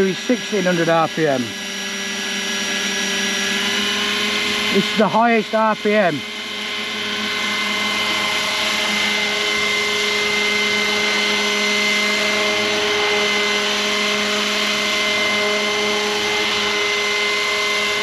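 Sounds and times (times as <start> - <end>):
model helicopter whine: 0.0 - 18.0
rotor wash: 0.0 - 18.0.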